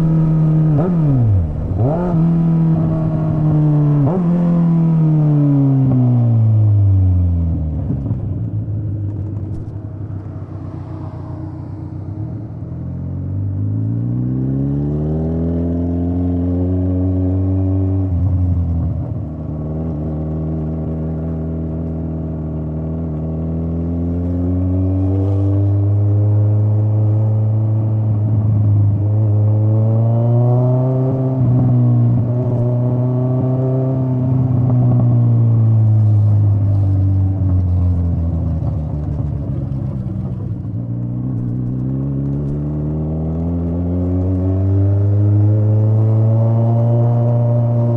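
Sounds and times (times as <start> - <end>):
motorcycle exhaust accelerating: 0.0 - 47.9.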